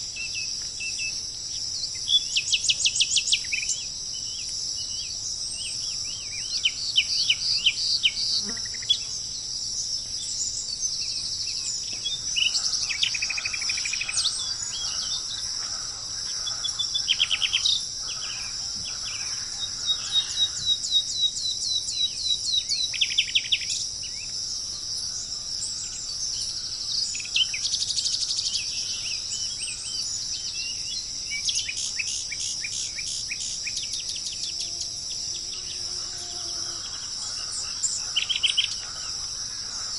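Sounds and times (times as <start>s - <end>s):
birds calling with trills: 0.0s - 39.9s
insects droning: 0.0s - 39.9s.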